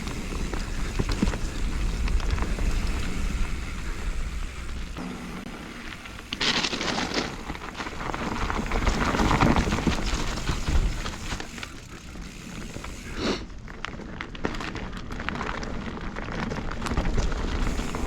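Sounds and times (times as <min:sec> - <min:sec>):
bike rattling over bumps: 0:00.0 - 0:18.0
bike tyres rolling on dirt: 0:00.0 - 0:18.0
gravel crackle: 0:00.0 - 0:18.0.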